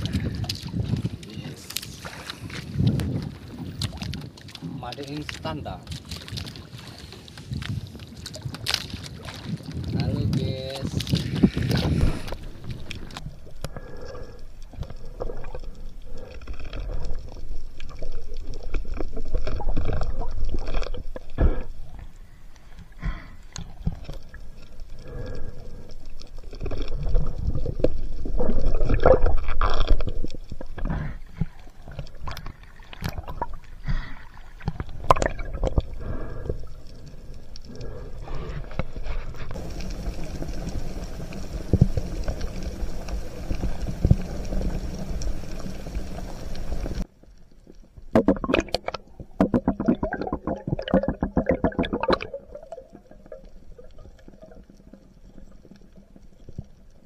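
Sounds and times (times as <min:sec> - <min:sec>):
water sloshing and gurgling: 0:00.0 - 0:57.0.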